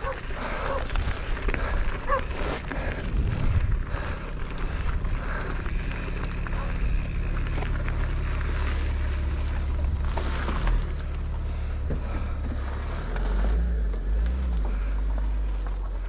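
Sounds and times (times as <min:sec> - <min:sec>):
wind rumbling on microphone: 0:00.0 - 0:13.4.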